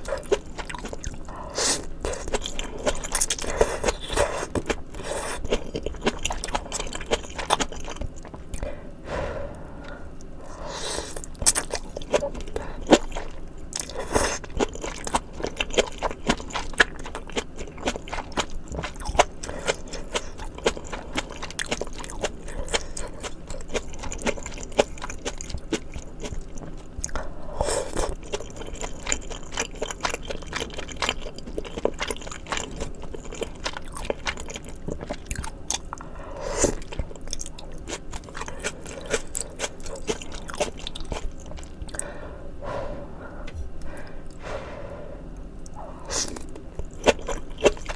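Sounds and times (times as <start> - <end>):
chewing and crunching: 0.0 - 8.8, 9.8 - 42.2, 45.3 - 47.9.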